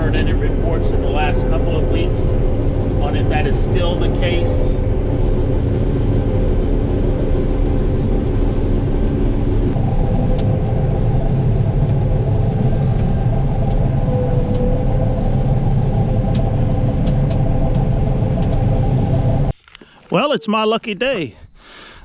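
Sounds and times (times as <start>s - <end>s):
vehicle engine rumbling: 0.0s - 21.9s.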